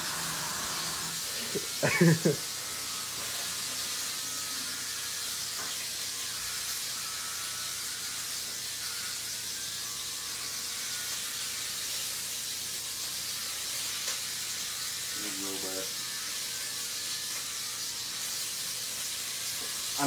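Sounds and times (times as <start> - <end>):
electric hair clippers humming: 0.0 - 20.0.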